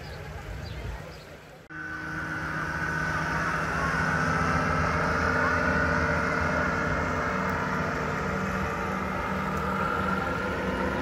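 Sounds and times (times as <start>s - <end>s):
vehicle engine humming: 1.5s - 11.0s
faint high whine: 1.7s - 11.0s.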